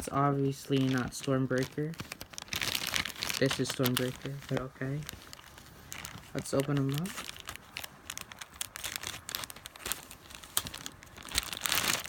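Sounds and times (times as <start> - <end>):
plastic wrapper tearing and crinkling: 0.0 - 12.0.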